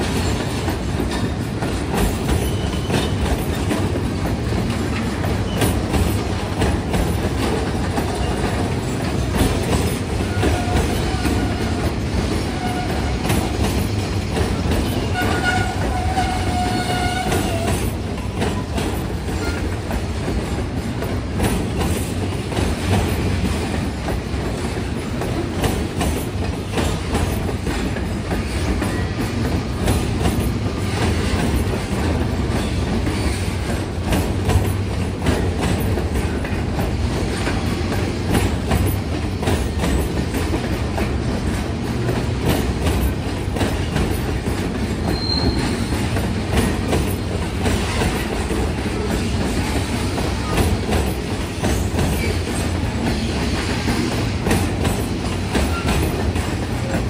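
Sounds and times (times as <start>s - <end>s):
train wheel squeals: 0.0s - 23.8s, 24.8s - 57.0s
freight train rumbling past: 0.0s - 57.0s
train wheels clattering on rails: 0.0s - 57.0s.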